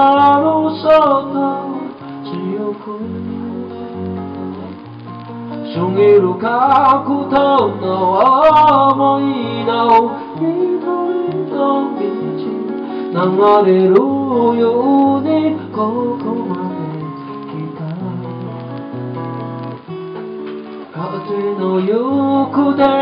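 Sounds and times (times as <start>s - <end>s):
man singing: 0.0s - 4.9s, 5.5s - 18.8s, 20.9s - 23.0s
strummed acoustic guitar: 0.0s - 23.0s.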